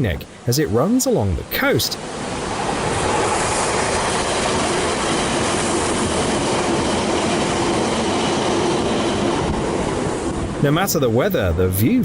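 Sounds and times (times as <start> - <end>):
train wheels rumbling on rails: 1.5 - 12.0.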